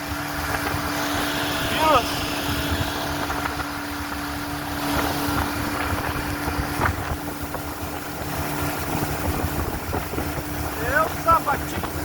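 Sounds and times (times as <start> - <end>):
boat motor humming: 0.0 - 12.0
water rushing: 0.0 - 12.0.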